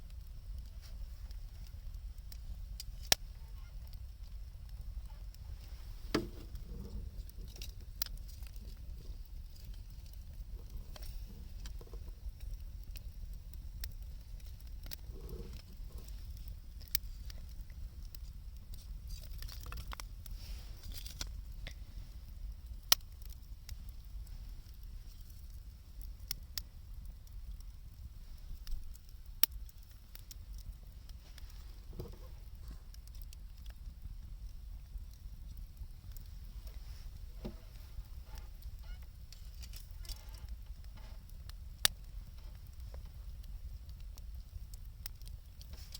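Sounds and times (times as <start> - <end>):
low steady fire rumble: 0.0 - 45.9
wood fire crackling pops: 0.0 - 45.9.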